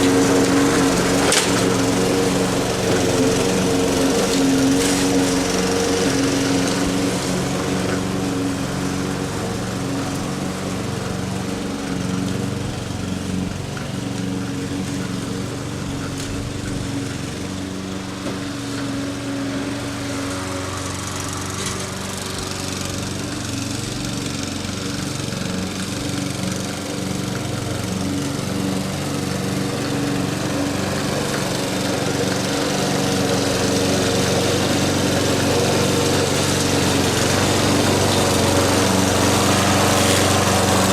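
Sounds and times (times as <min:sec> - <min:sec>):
lawn mower cutting grass: 0:00.0 - 0:40.9.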